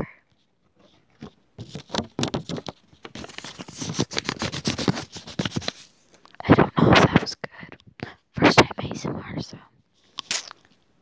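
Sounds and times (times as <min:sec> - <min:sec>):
paper crinkling on microphone: 0:00.3 - 0:09.4.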